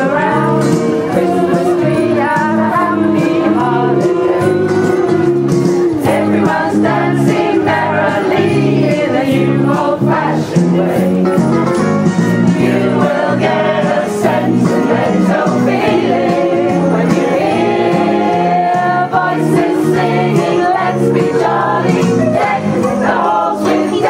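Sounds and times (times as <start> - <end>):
choir singing: 0.0 - 11.4, 12.6 - 24.0.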